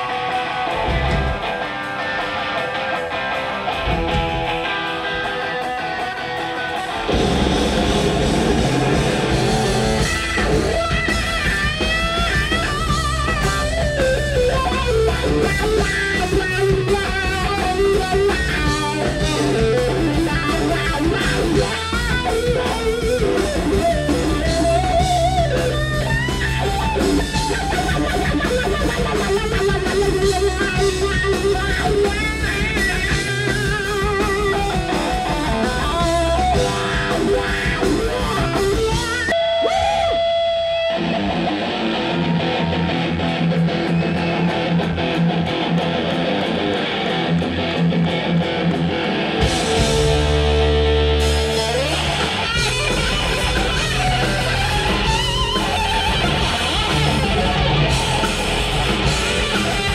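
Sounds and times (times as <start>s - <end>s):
electric guitar lead with bends: 0.0s - 59.9s
rock band playing: 0.0s - 59.9s.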